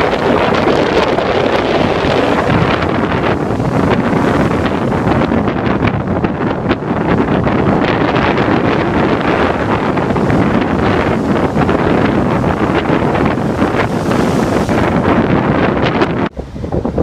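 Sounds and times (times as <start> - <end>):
strong wind buffeting microphone: 0.0 - 17.0
surf of big waves: 0.0 - 17.0.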